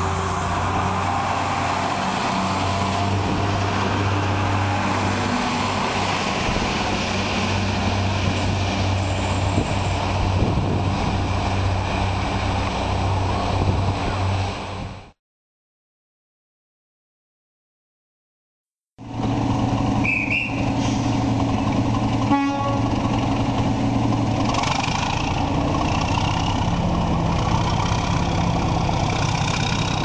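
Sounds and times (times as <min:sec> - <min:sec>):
diesel train engine humming: 0:00.0 - 0:15.1, 0:19.0 - 0:30.0.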